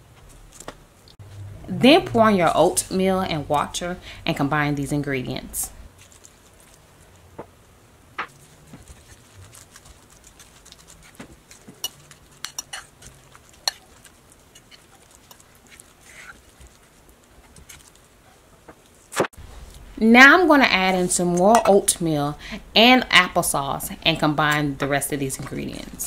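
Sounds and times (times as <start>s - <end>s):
soft mixing in a bowl: 1.2s - 7.4s, 8.3s - 26.0s.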